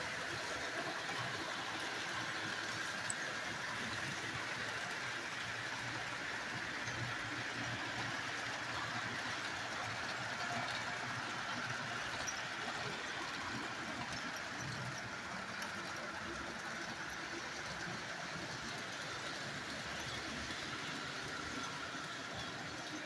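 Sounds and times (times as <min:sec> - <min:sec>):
model trains whirring on track: 0:00.0 - 0:23.0.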